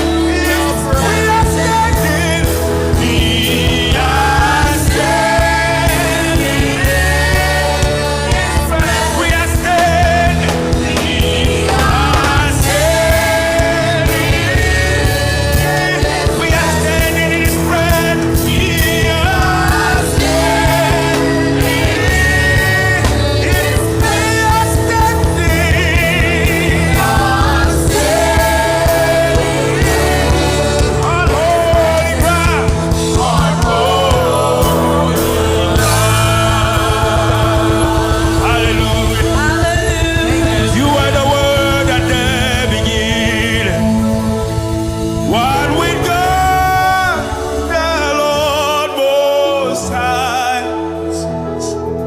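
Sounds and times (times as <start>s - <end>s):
drum beat: 0.0s - 47.2s
band playing held chords: 0.0s - 52.0s
bass: 0.0s - 52.0s
gliding melody lines: 0.0s - 52.0s
person singing: 0.0s - 52.0s.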